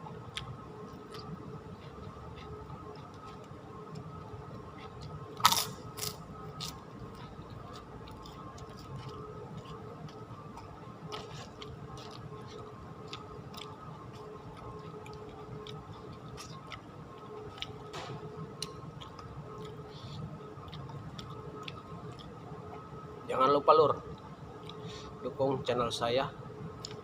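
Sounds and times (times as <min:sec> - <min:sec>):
person chewing and crunching food: 0:00.1 - 0:22.9, 0:24.6 - 0:25.2, 0:26.8 - 0:27.0.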